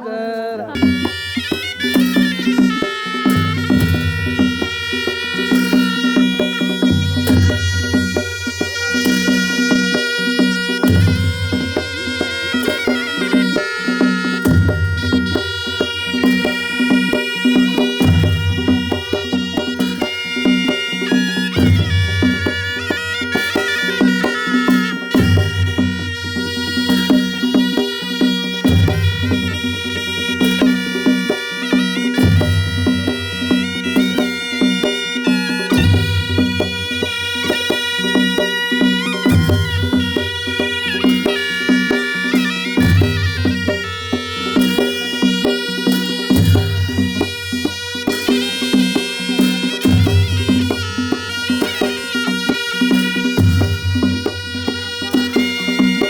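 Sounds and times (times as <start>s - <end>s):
drum beats and percussion: 0.0s - 56.0s
shehnai melody: 0.0s - 56.0s.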